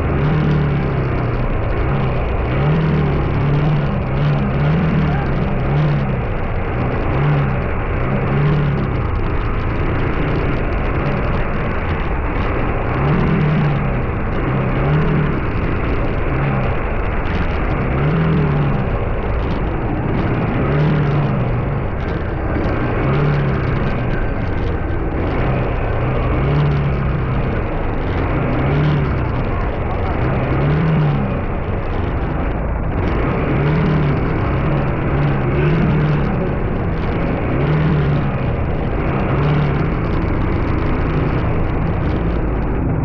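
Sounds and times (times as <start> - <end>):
low hum: 0.0 - 43.0
vehicle road noise: 0.0 - 43.0.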